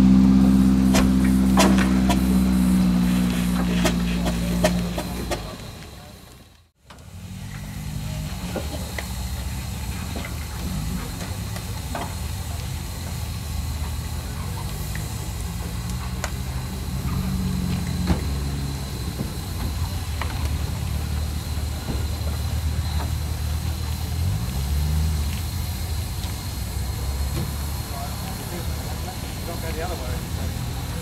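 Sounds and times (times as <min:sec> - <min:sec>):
steam roller rumbling: 0:00.0 - 0:31.0.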